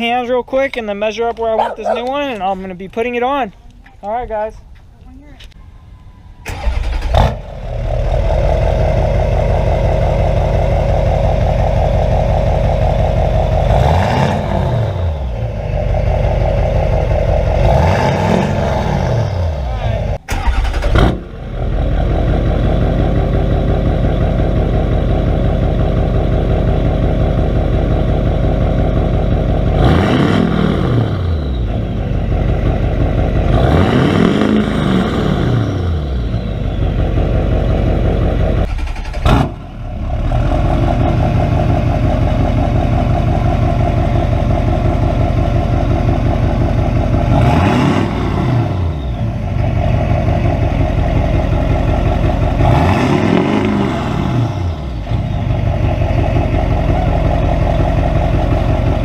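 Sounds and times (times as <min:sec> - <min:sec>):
car engine idling and revving: 0:03.1 - 0:59.0.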